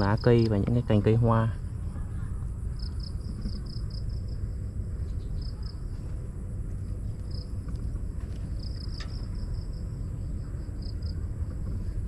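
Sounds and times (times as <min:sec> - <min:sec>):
high insect chirps: 0:00.0 - 0:12.0
low outdoor rumble: 0:00.0 - 0:12.0.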